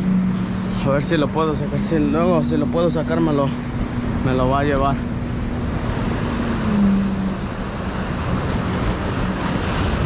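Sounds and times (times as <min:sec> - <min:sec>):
ocean surf breaking on rocks: 0:00.0 - 0:10.0
wind buffeting microphone: 0:00.0 - 0:10.0.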